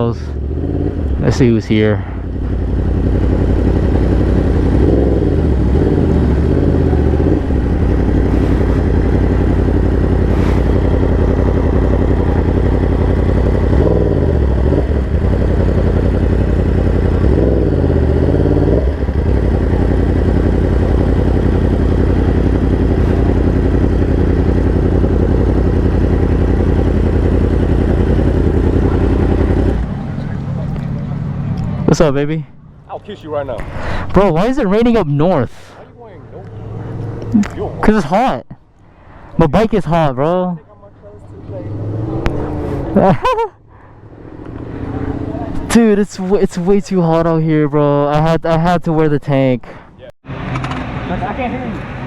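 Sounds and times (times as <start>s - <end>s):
motorcycle engine at low revs: 0.0s - 35.0s, 35.6s - 38.2s, 41.1s - 47.2s, 50.3s - 52.0s.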